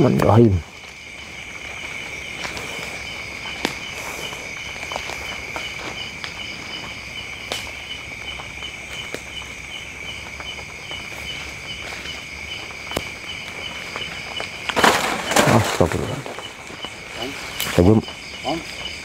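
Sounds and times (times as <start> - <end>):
insect chorus trilling: 0.0 - 19.0
pulsing insect chirp: 0.0 - 19.0.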